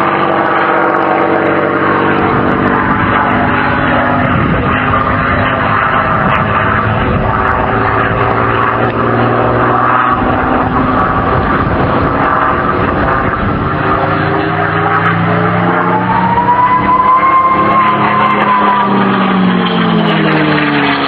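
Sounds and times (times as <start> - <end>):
propeller plane engine flying past: 0.0 - 21.0.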